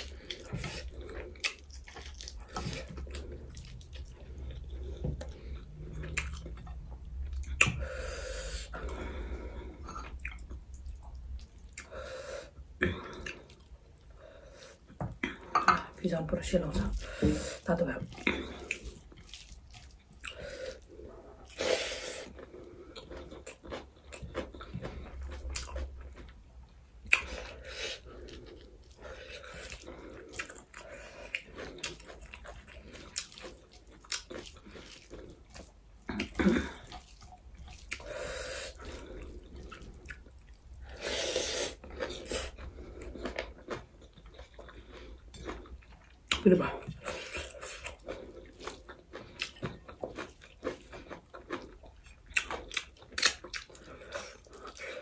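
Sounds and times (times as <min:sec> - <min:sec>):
person chewing with wet mouth sounds: 0:00.0 - 0:55.0.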